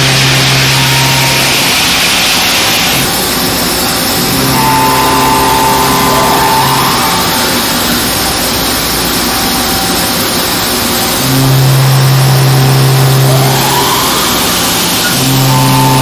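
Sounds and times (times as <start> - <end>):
coolant spray hiss: 0.0 - 16.0
machine spindle hum and whine: 0.0 - 16.0.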